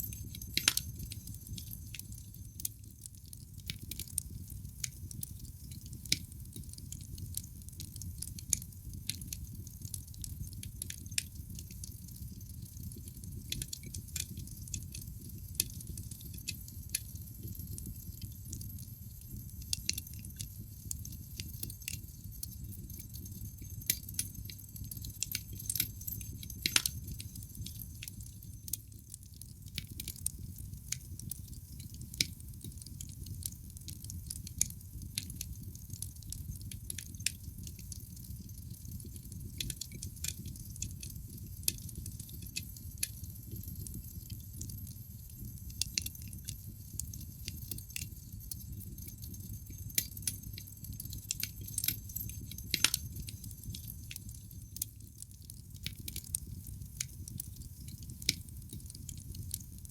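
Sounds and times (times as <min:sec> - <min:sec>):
crackles and pops of burning logs: 0:00.0 - 0:59.9.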